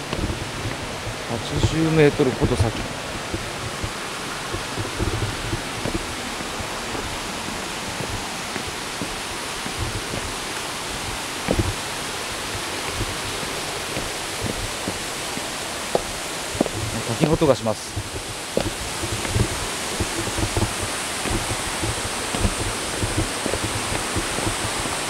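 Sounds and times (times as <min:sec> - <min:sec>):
soft low thumps: 0:00.0 - 0:25.0
waterfall roaring: 0:00.0 - 0:25.0.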